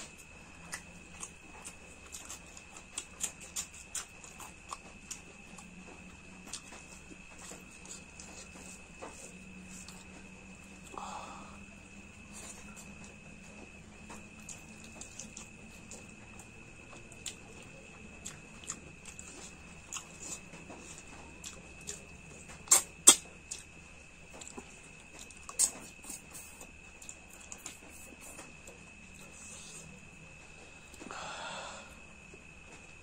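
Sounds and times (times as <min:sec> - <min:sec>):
close chewing and mouth sounds: 0:00.0 - 0:11.0, 0:11.6 - 0:31.1.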